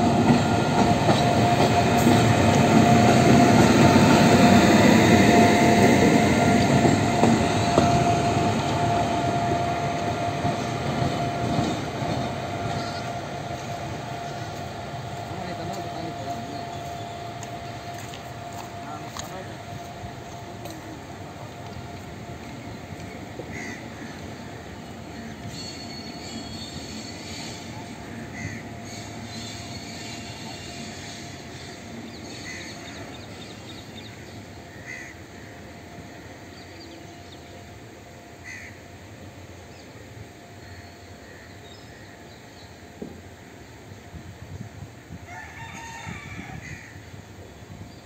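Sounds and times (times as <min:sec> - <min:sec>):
locomotive rumbling with whine: 0:00.0 - 0:45.3.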